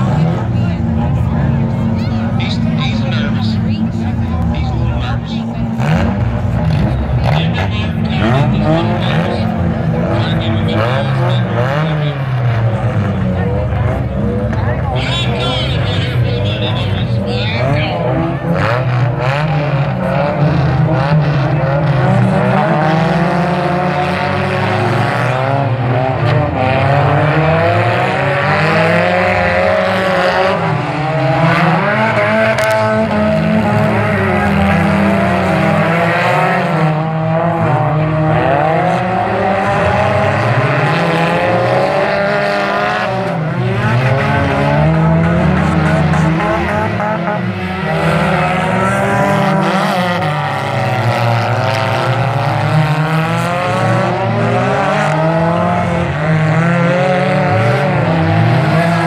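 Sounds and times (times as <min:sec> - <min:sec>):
racing car engines: 0:00.0 - 0:59.0.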